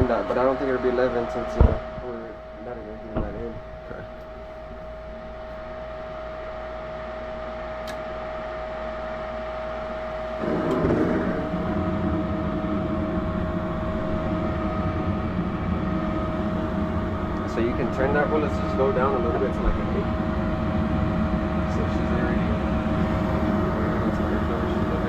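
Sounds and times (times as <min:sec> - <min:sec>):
furnace firing up with rushing: 0:00.0 - 0:25.0
furnace humming: 0:00.0 - 0:25.0.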